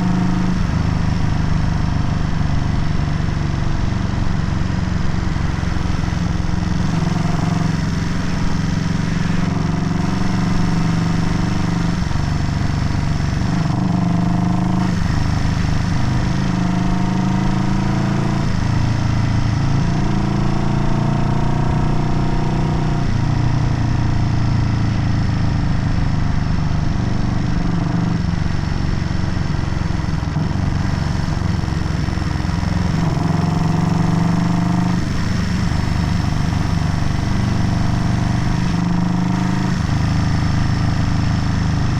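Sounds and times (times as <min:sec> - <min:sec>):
motorcycle engine shifting gears: 0:00.0 - 0:41.9.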